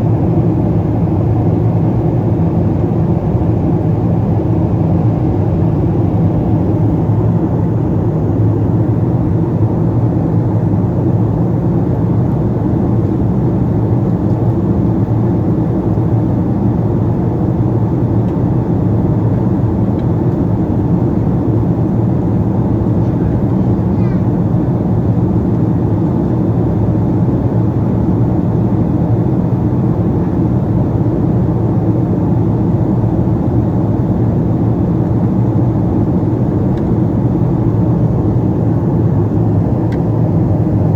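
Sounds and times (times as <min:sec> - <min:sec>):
airplane cabin drone: 0:00.0 - 0:40.9.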